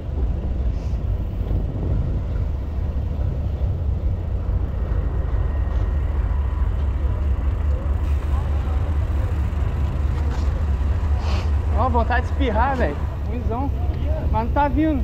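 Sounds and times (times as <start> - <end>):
faint street traffic: 0.0 - 15.0
wind buffeting microphone: 0.0 - 15.0.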